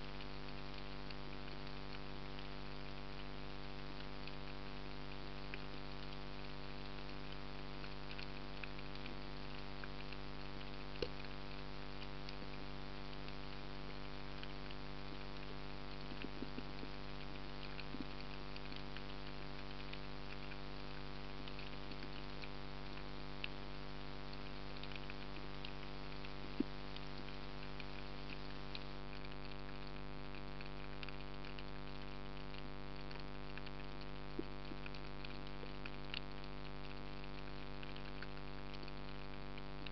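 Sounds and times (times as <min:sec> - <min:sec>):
constant hum: 0:00.0 - 0:39.9
fine underwater crackle: 0:00.0 - 0:39.9.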